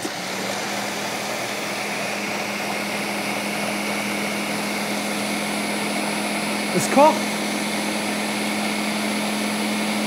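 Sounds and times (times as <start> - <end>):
blender motor running: 0.0 - 10.0.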